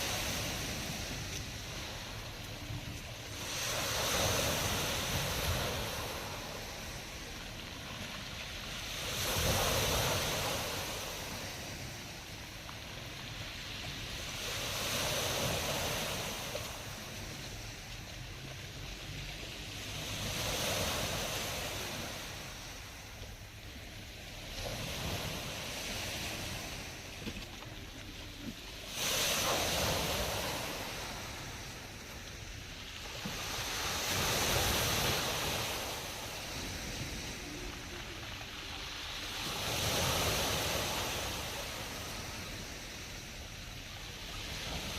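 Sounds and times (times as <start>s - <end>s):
hiss of surf: 0.0s - 44.9s
waves breaking on shore: 0.0s - 44.9s.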